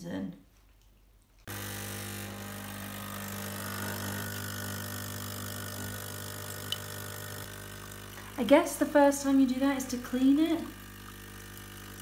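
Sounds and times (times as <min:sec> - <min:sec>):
espresso machine pump humming: 0:01.5 - 0:12.0.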